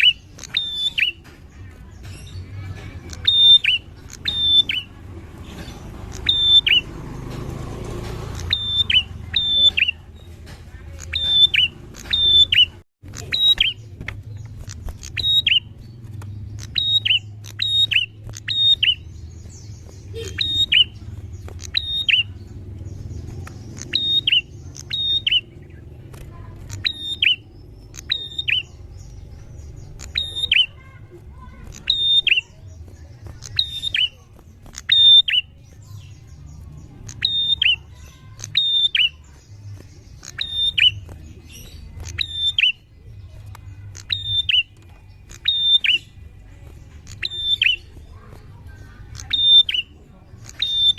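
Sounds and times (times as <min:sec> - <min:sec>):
bird calling sharp notes: 0:00.0 - 0:01.3, 0:02.3 - 0:05.0, 0:05.6 - 0:07.0, 0:08.3 - 0:10.2, 0:10.9 - 0:35.7, 0:37.0 - 0:43.1, 0:43.8 - 0:46.4, 0:47.0 - 0:50.9.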